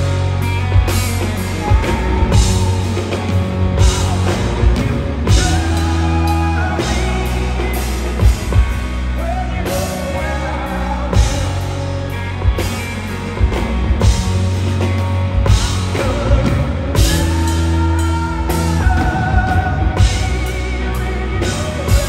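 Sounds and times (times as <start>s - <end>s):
electric guitar melody: 0.0s - 22.0s
heavy bass: 0.0s - 22.0s
pounding drum kit: 0.0s - 22.0s
rock band playing live: 0.0s - 22.0s.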